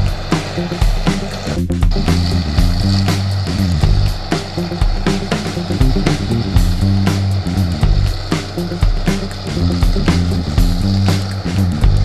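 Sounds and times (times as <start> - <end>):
background music with steady beat: 0.0 - 12.0
bass line: 0.0 - 12.0.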